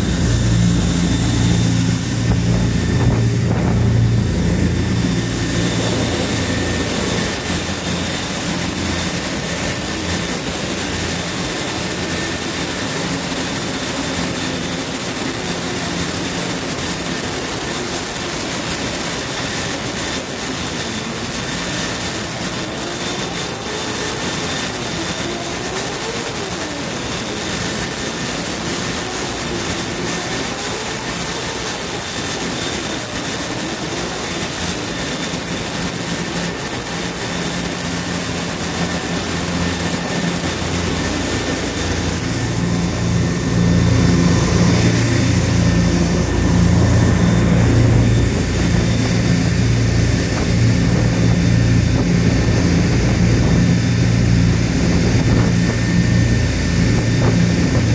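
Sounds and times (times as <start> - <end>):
engine room machinery running: 0.0 - 57.9
high-pitched whine: 0.0 - 57.9
low machinery hum: 0.0 - 57.9.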